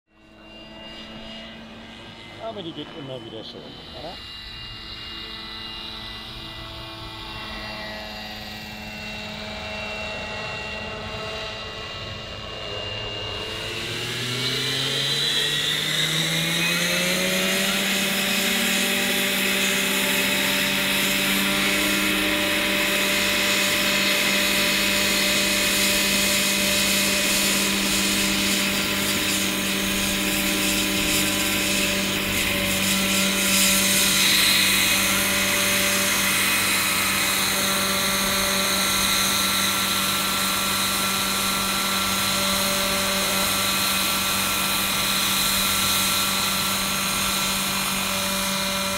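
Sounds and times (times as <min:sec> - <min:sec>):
model helicopter motor whine: 0:00.1 - 0:48.9.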